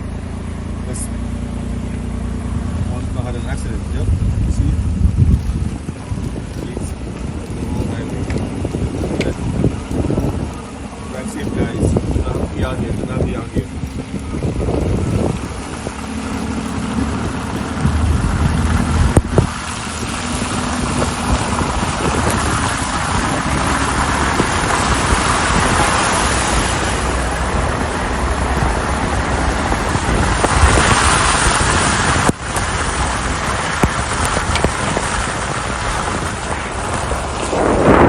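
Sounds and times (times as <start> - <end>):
low rumble: 0.0 - 38.0
tyre noise on slushy road: 0.0 - 38.0.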